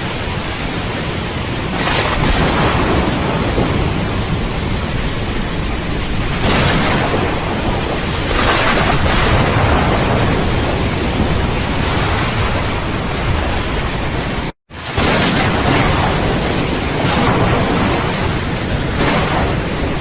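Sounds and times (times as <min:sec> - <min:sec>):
heavy rain: 0:00.0 - 0:20.0
rolling thunder: 0:00.0 - 0:20.0.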